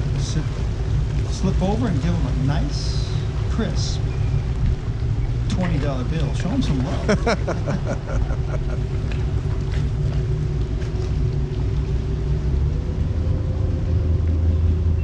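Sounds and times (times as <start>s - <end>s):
boat engine droning: 0.0s - 15.0s
faint steady hum: 0.0s - 15.0s.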